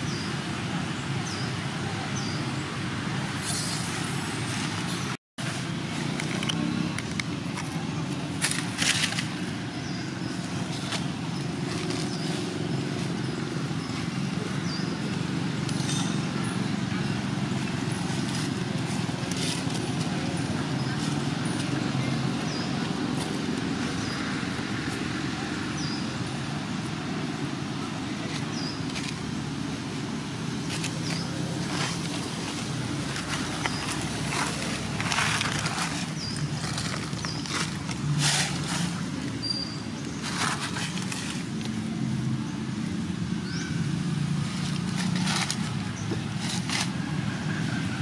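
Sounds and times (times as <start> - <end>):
low rumble of distant engines: 0.0 - 48.0
dry leaves crackling: 5.4 - 48.0.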